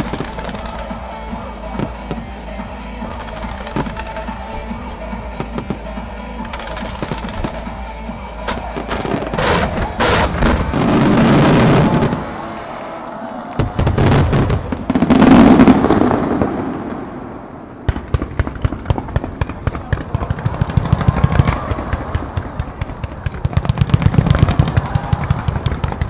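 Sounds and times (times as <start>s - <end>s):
fireworks booming: 0.0s - 12.8s, 13.5s - 26.0s
fireworks crackling pops: 0.0s - 26.0s.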